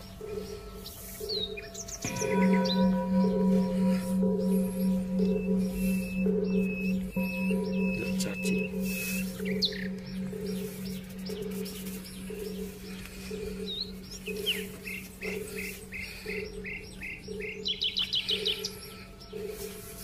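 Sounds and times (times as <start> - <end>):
low drone: 0.0 - 20.0
small birds chirping: 0.0 - 20.0.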